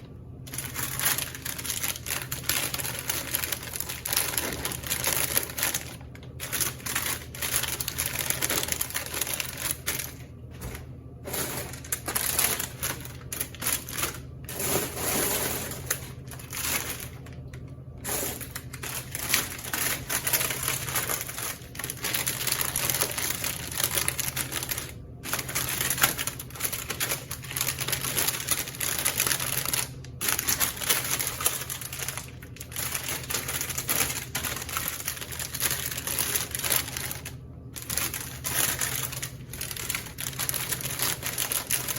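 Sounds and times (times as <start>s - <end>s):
steady low hum: 0.0s - 41.9s
plastic packaging crinkling: 0.3s - 41.9s.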